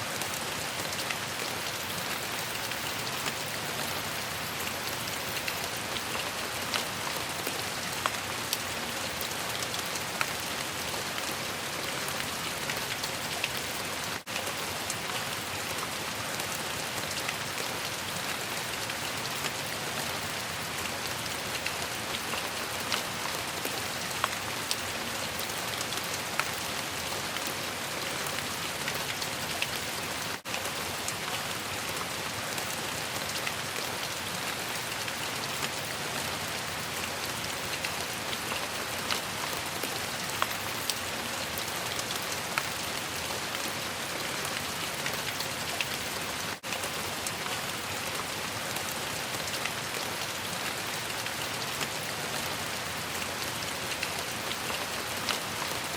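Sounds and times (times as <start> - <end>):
rain falling on a surface: 0.0 - 55.9.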